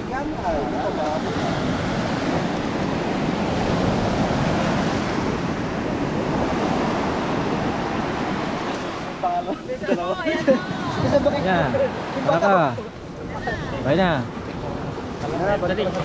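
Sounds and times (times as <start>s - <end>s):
sea surf breaking on sand: 0.0s - 16.0s.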